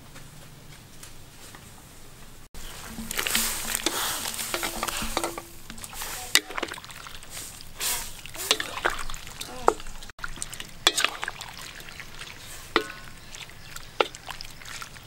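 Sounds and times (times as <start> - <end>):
squid sizzling in a wok: 2.6 - 15.0
wooden spatula scraping metal wok: 2.6 - 15.0.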